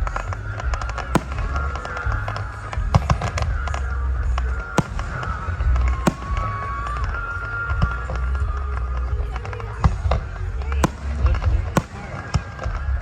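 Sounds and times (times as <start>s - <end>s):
fireworks bangs: 0.0s - 13.0s
music: 0.0s - 13.0s
steady low rumble: 0.0s - 13.0s.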